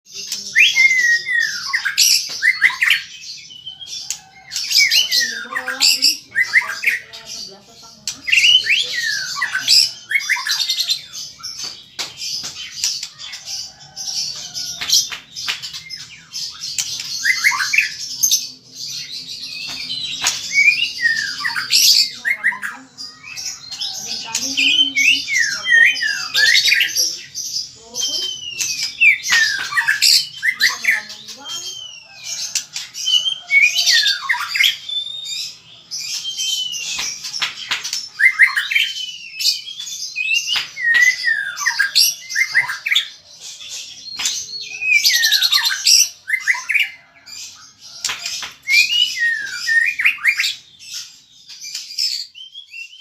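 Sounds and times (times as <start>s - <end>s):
songbird whistling and chattering: 0.1s - 53.0s.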